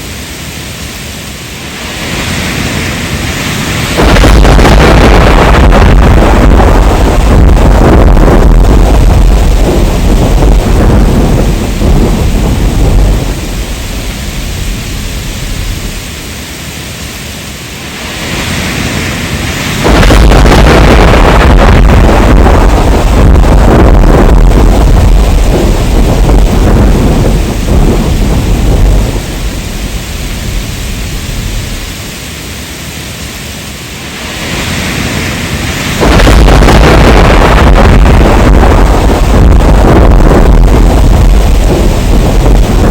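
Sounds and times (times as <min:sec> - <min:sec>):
heavy rain: 0:00.0 - 0:42.9
rolling thunder: 0:01.7 - 0:16.4, 0:17.8 - 0:32.2, 0:34.1 - 0:42.9.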